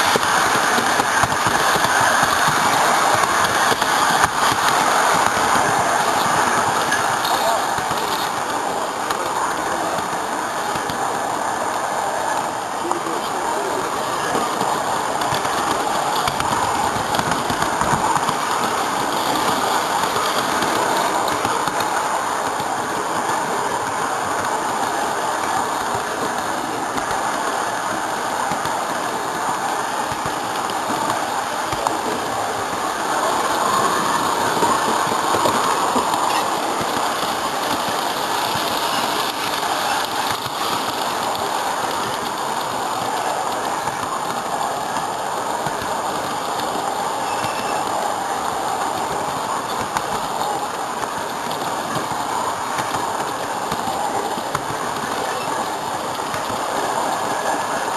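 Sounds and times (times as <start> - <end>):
train wheels clicking on rails: 0.0 - 57.9.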